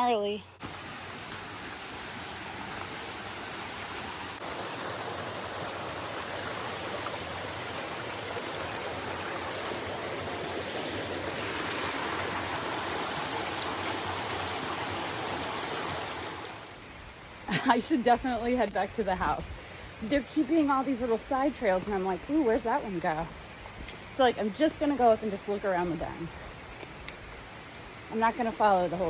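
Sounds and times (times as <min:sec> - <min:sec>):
stream rushing over rocks: 0:00.6 - 0:29.0.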